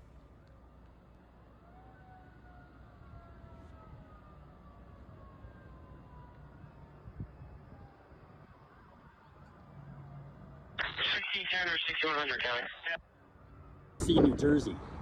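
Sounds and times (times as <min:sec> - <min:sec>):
faint siren wailing: 0:01.1 - 0:14.0.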